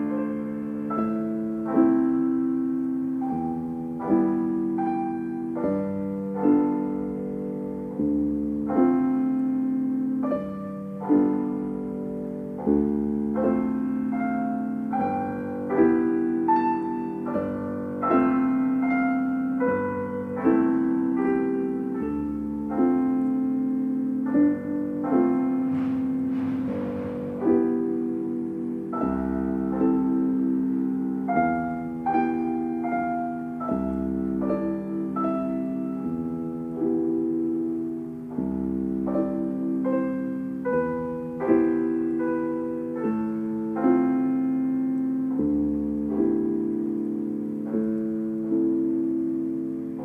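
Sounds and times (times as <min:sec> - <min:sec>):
slow piano chords: 0:00.0 - 0:50.0.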